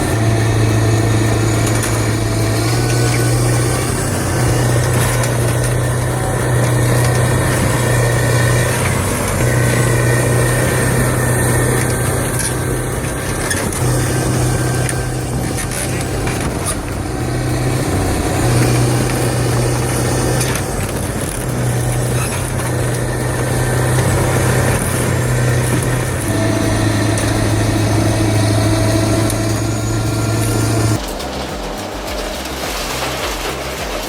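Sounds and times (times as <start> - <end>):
heavy machinery engine hum: 0.0 - 34.0.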